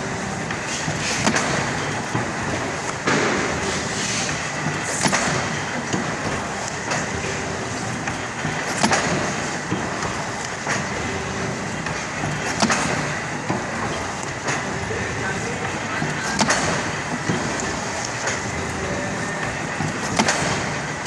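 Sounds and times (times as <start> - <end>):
die-cutting press clattering: 0.0 - 21.0.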